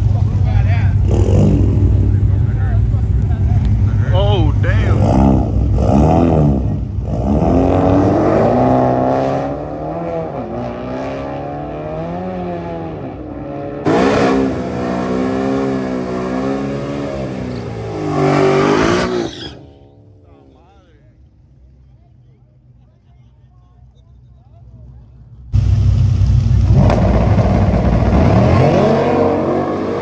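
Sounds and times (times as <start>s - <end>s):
car engines revving: 0.0s - 21.8s, 24.7s - 30.0s.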